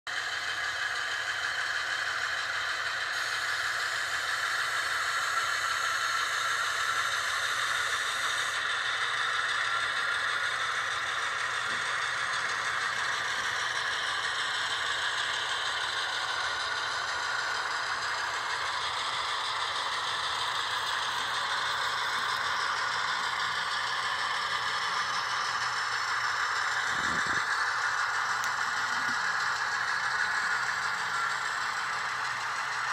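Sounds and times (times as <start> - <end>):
model train running on track: 0.1 - 32.9.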